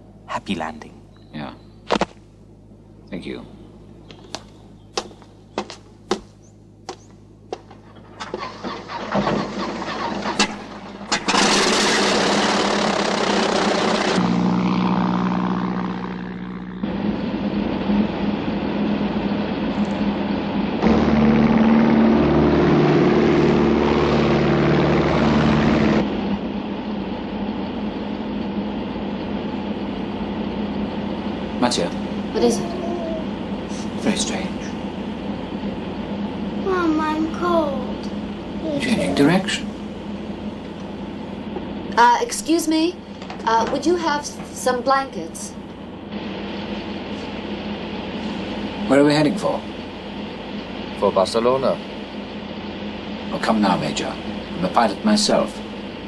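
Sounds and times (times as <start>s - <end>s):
aircraft piston engines running: 0.0s - 56.0s
engine drone in cabin: 0.0s - 56.0s.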